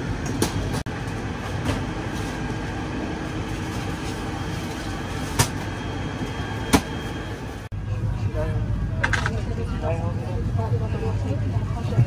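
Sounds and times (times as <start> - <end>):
ventilation air hum: 0.0 - 12.0.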